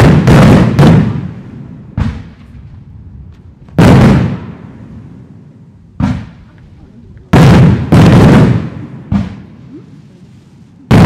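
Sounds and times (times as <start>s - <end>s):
fireworks bursting in loud bangs: 0.0s - 9.7s.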